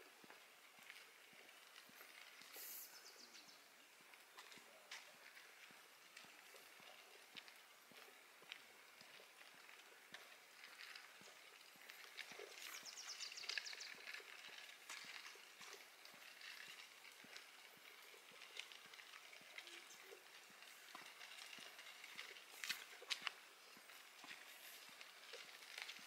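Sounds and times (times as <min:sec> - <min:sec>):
faint footsteps on forest trail: 0:00.0 - 0:26.0.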